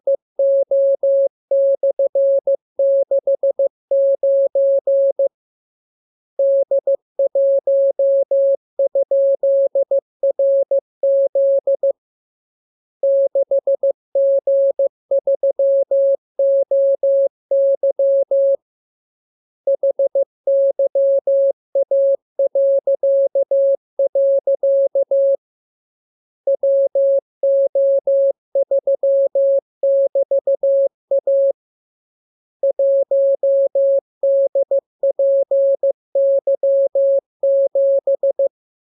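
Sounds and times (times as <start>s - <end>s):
morse code beeps: 0.1s - 5.3s, 6.4s - 11.9s, 13.0s - 18.6s, 19.7s - 25.4s, 26.5s - 31.5s, 32.6s - 38.5s.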